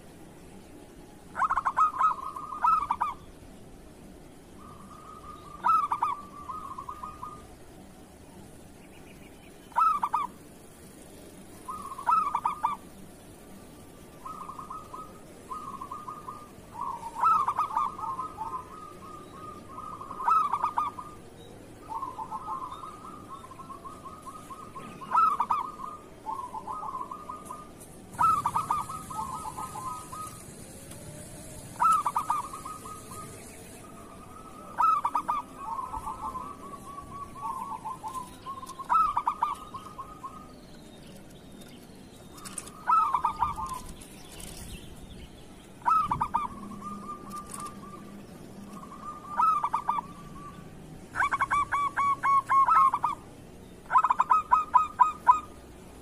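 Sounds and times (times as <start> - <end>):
doves cooing: 1.2 - 3.2, 4.5 - 7.7, 9.7 - 10.5, 11.2 - 41.3, 42.3 - 44.7, 45.7 - 56.0.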